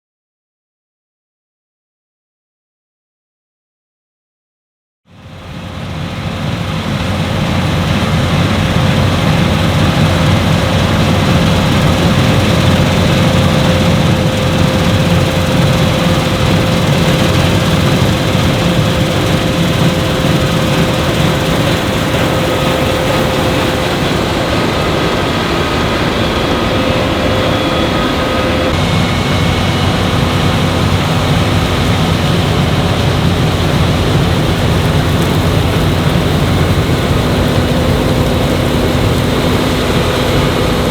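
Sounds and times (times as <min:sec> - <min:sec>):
combine harvester engine drone: 0:05.1 - 0:40.9
machinery whine: 0:05.1 - 0:40.9.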